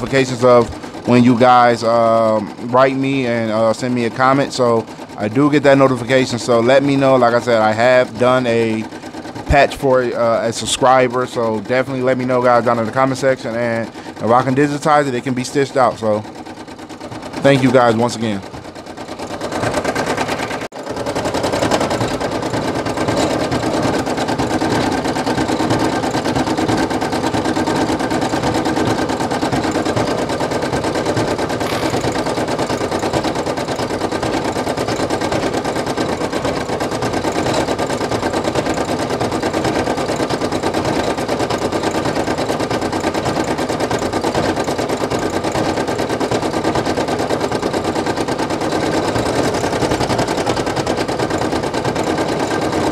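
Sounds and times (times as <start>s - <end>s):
embroidery machine stitching: 0.0s - 52.9s.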